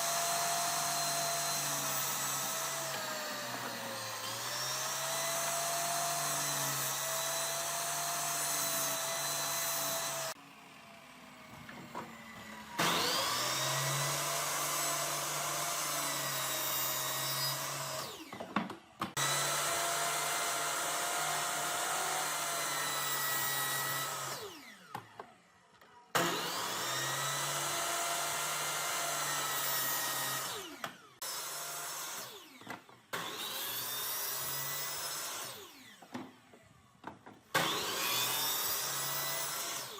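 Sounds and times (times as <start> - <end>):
electric power tool motor whining: 0.0 - 36.8, 37.5 - 39.9.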